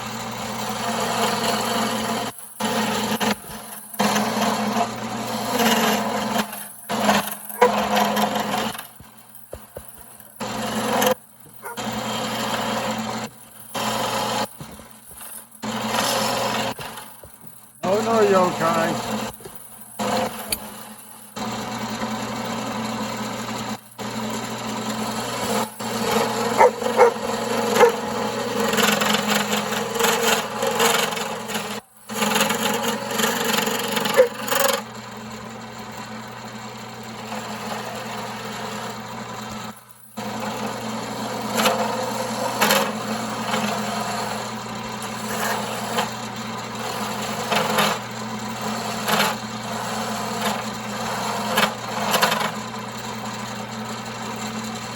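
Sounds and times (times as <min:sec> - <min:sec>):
turning tool scraping wood: 0:00.0 - 0:24.1, 0:24.8 - 0:34.9, 0:37.1 - 0:53.5
wood lathe humming: 0:00.0 - 0:54.9.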